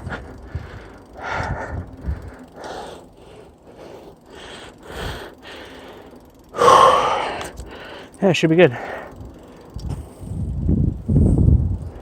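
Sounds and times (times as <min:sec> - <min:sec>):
heavy breathing: 0:00.0 - 0:09.8.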